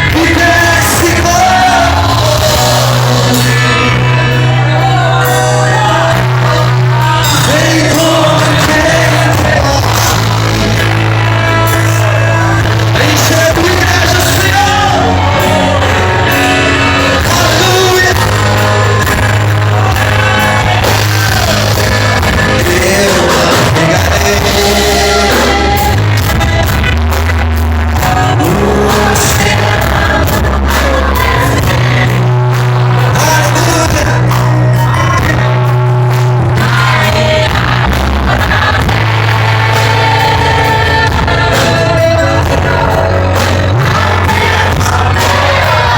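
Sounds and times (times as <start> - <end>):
person singing: 0.0 - 27.0, 27.9 - 45.9
band playing: 0.0 - 45.9
bass line: 0.0 - 45.9.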